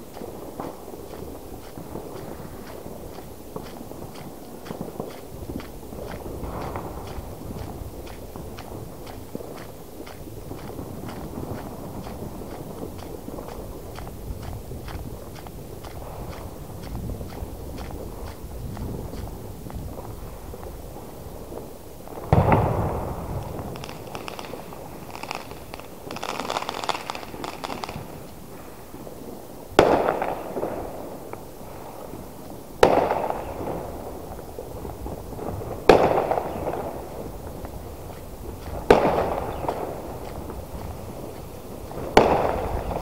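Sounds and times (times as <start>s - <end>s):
firework bangs with echo: 0.0s - 43.0s
fireworks crackling: 0.0s - 43.0s.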